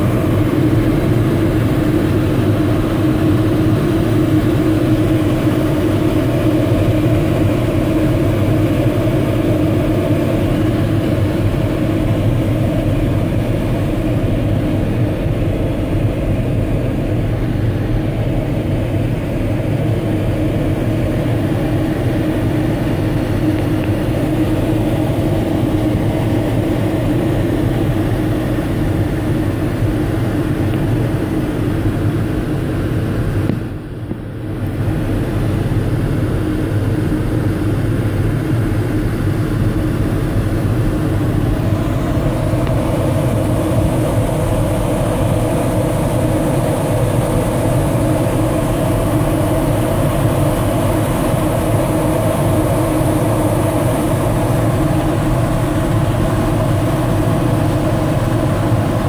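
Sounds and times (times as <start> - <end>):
rush of air in cockpit: 0.0 - 59.0.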